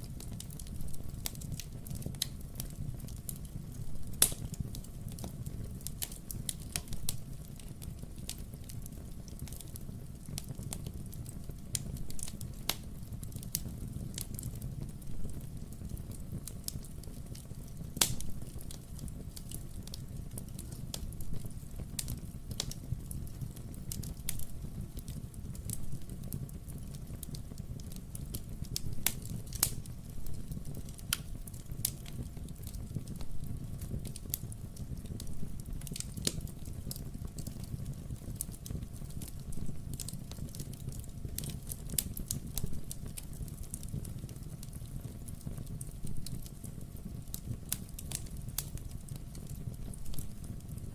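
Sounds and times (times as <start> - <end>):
burning logs crackling and popping: 0.0 - 50.9
low rumble of flames: 0.0 - 50.9.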